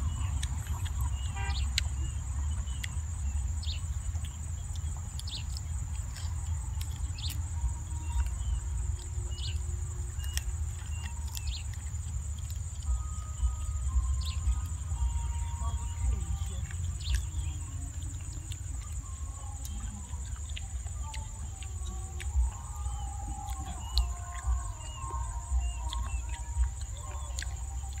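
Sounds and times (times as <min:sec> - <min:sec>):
high-pitched insect chorus: 0:00.0 - 0:28.0
person chewing: 0:03.7 - 0:28.0.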